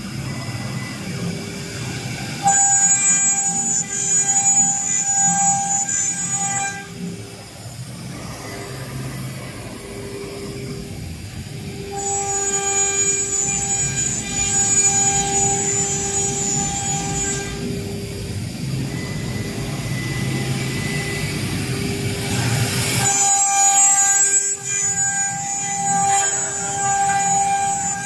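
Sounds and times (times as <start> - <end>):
bright high whine: 0.0 - 28.0
cnc router cutting wood: 0.0 - 28.0.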